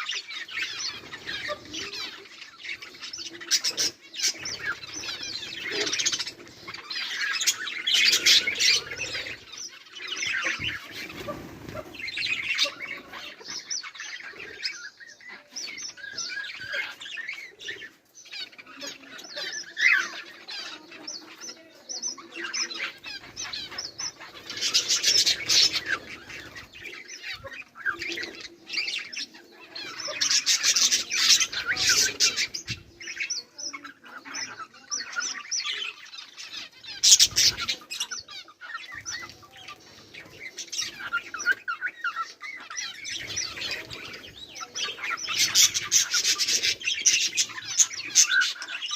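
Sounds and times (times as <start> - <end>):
budgerigars chattering and chirping: 0.0 - 48.9.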